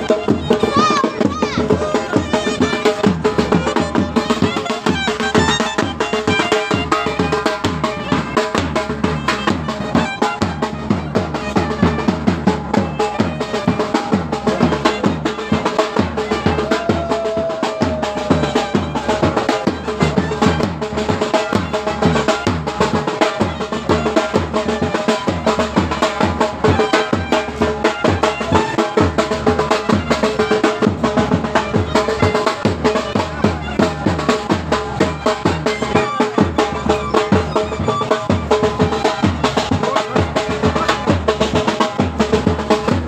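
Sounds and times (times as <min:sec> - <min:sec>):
fast steady drum rhythm: 0:00.0 - 0:43.0
sustained folk melody: 0:00.0 - 0:43.0.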